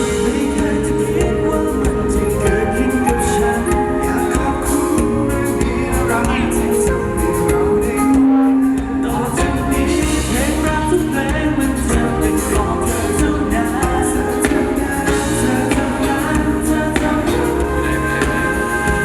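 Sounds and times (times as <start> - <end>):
pop song over loudspeakers: 0.0 - 19.0.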